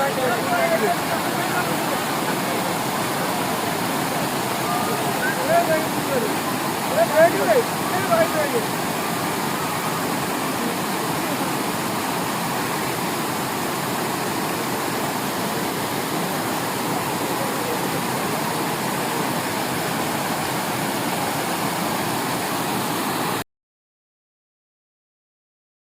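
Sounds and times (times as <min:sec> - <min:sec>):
waterfall rushing: 0:00.0 - 0:23.4.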